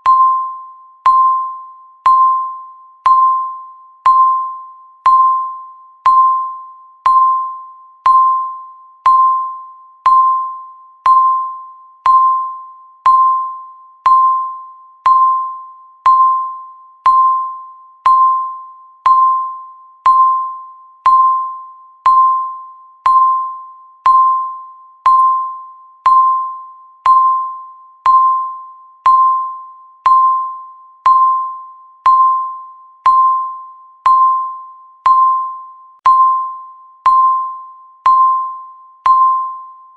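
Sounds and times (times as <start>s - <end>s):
timer beep ding: 0.0s - 39.9s.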